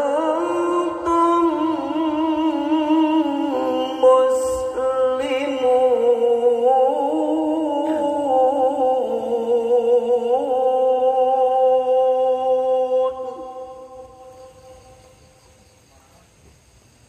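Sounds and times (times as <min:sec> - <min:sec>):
man chanting a sung note: 0:00.0 - 0:15.0.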